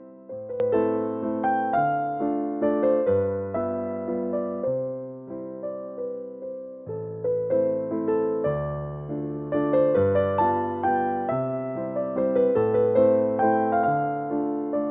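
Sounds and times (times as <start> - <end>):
soft electric piano: 0.0 - 14.9.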